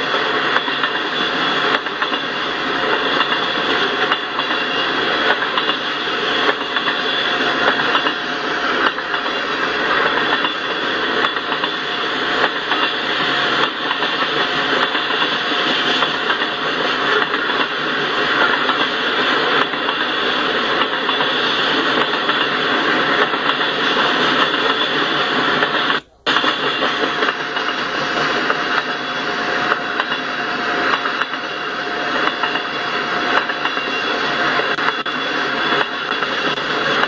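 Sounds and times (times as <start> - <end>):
train wheels rushing on rails: 0.0 - 37.0.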